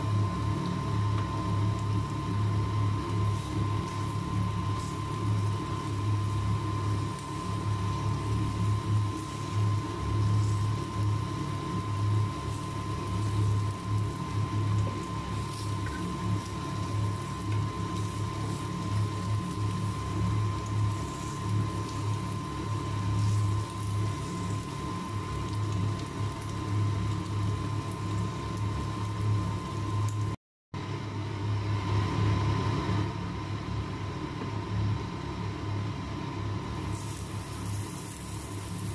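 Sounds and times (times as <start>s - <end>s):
meat sizzling on a grill: 0.0s - 30.3s, 36.8s - 38.9s.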